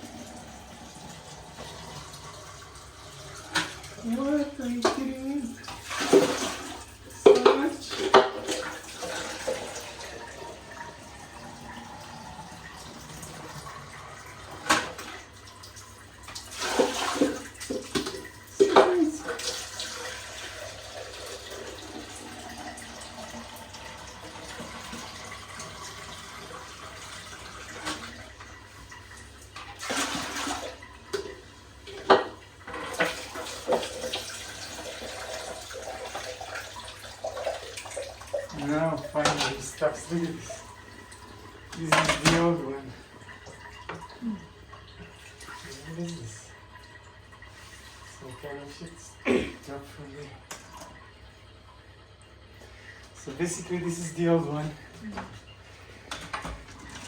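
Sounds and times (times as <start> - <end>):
water running in toilet: 0.0 - 57.0.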